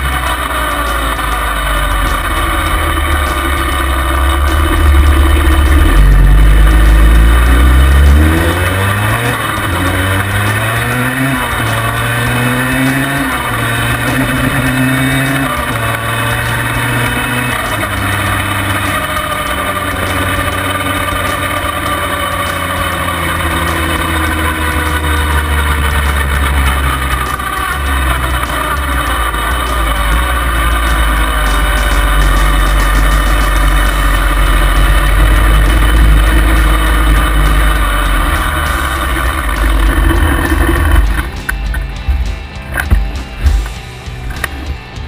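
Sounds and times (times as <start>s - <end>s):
two-stroke quad engine under load: 0.0s - 45.0s.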